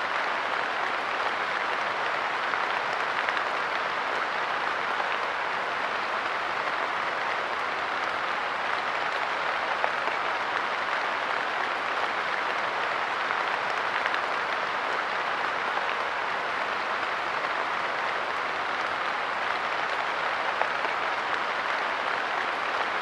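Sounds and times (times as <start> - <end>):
light rain pattering on a bench: 0.0 - 23.0.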